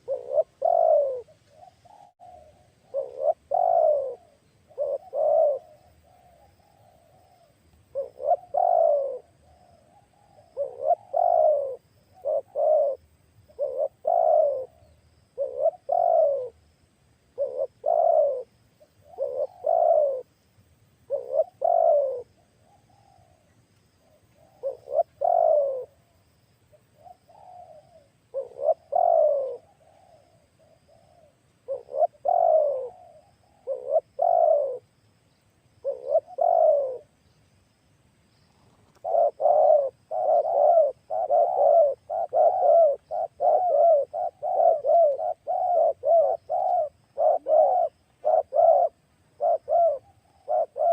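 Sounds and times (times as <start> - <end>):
dove cooing: 0.0 - 16.7, 17.3 - 20.4, 21.0 - 34.9, 35.8 - 37.3, 38.5 - 50.9.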